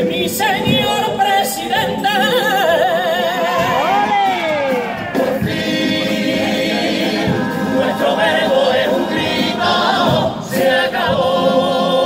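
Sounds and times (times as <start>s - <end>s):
male vocal group singing in harmony: 0.0s - 12.0s.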